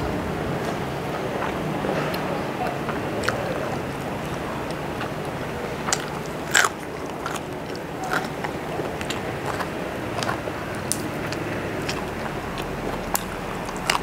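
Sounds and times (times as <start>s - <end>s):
food crunching: 0.5s - 14.0s
person chewing food: 0.6s - 14.0s.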